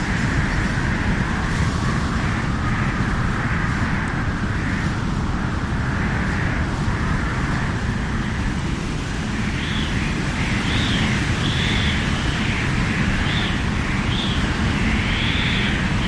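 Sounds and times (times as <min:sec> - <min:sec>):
howling stormy wind: 0:00.0 - 0:16.0.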